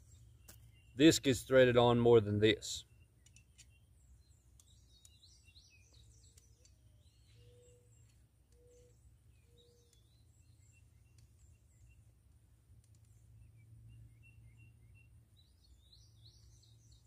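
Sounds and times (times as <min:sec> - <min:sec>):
faint birds chirping: 0:00.0 - 0:17.0
low steady hum: 0:00.0 - 0:17.0.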